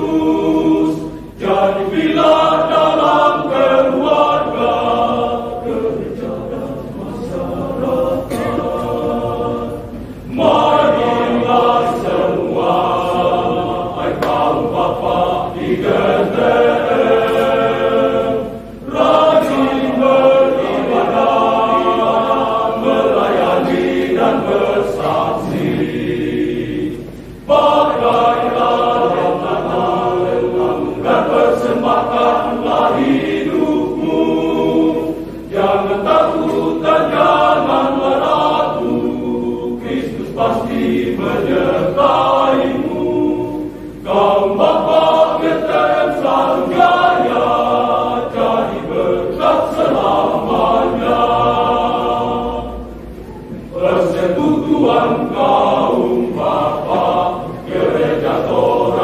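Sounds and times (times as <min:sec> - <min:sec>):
men's choir singing: 0:00.0 - 0:59.0.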